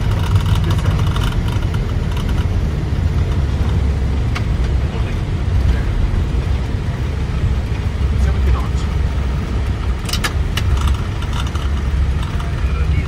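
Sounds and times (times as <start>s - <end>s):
airliner rolling on runway: 0.0s - 13.0s.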